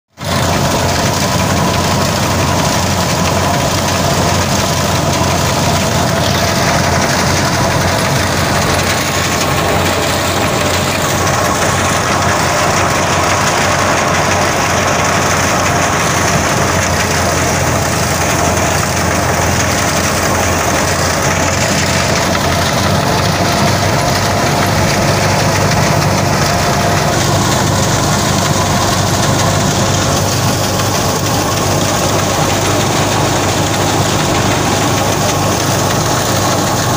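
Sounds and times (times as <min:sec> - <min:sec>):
tractor engine hum: 0:00.1 - 0:36.9
thresher mechanical din: 0:00.2 - 0:36.9.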